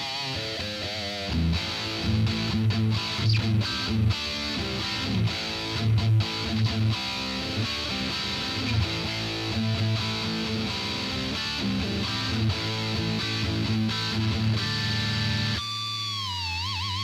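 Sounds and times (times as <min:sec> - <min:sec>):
electric guitar picked notes: 0:00.0 - 0:17.0.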